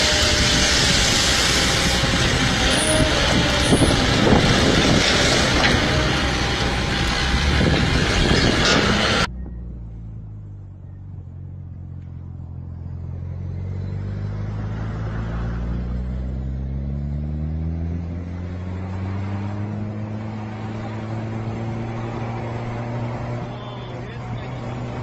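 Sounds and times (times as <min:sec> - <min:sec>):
truck engine revs climbing: 0:00.0 - 0:25.0.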